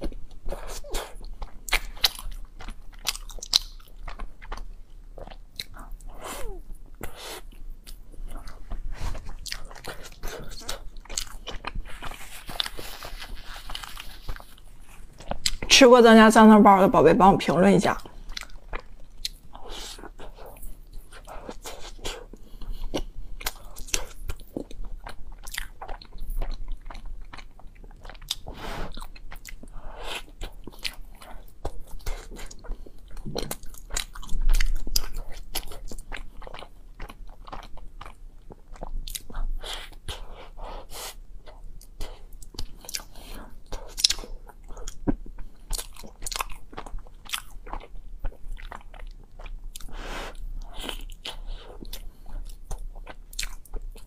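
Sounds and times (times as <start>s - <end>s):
chewing with wet mouth clicks: 0.0s - 15.7s, 18.0s - 40.4s, 41.4s - 49.9s, 50.6s - 54.0s.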